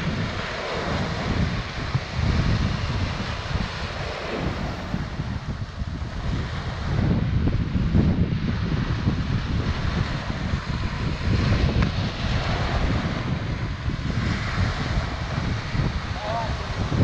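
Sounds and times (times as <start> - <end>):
waves breaking on rocky shore: 0.0 - 17.0
wind buffeting microphone: 0.0 - 17.0.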